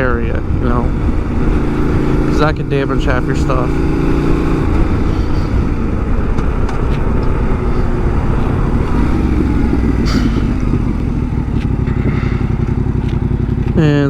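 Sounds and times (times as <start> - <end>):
broad rushing noise: 0.0 - 13.9
motorcycle engine running: 0.0 - 14.0.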